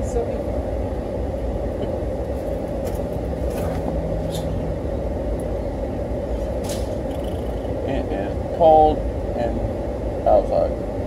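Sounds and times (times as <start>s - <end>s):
car engine idling: 0.0s - 10.7s.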